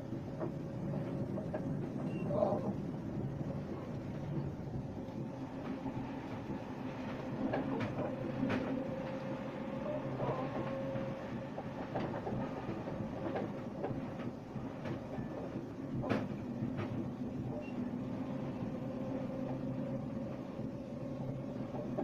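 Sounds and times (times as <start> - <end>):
faint steady whine: 0.0 - 22.0
train wheels rumbling on rails: 0.0 - 22.0.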